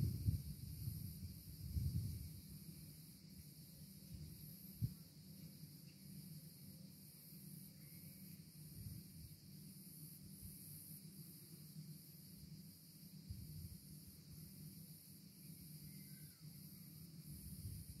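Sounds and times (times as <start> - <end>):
faint high hiss: 0.0 - 18.0.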